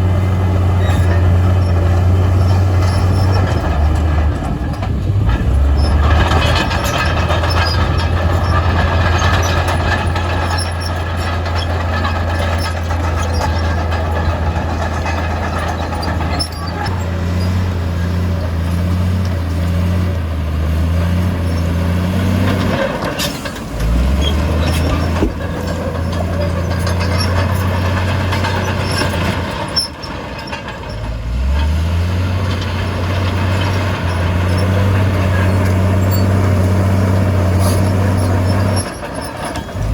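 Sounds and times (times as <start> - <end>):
diesel engine under load: 0.0 - 39.9
metallic squeaking and clanking: 0.0 - 39.9.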